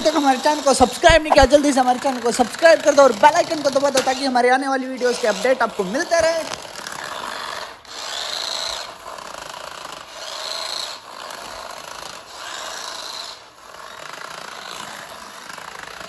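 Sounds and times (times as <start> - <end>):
toy car motor whirring: 0.0 - 16.0.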